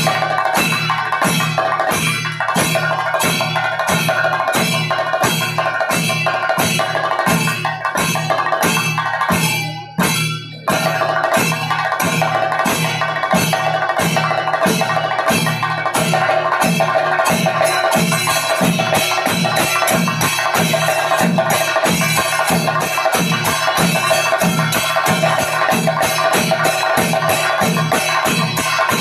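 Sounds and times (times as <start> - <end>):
chenda drums fast stick strokes: 0.0 - 29.0
ringing hand cymbals: 0.0 - 29.0
steady chenda drum beats: 0.0 - 29.0.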